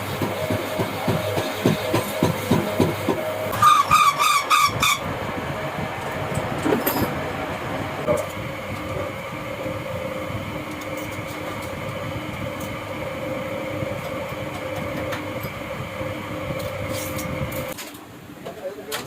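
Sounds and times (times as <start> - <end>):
workshop machine humming: 0.0 - 18.7.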